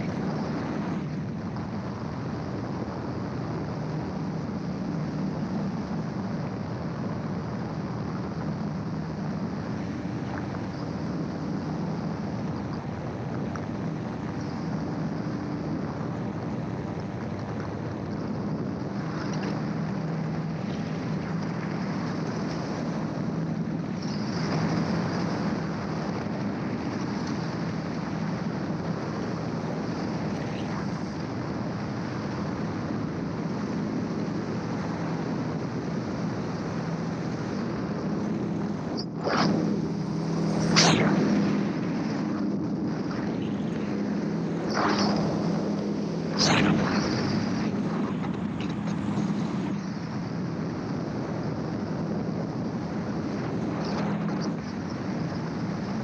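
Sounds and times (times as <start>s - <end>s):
aircraft engine drone: 0.0s - 56.0s
wind rushing over microphone: 0.0s - 56.0s.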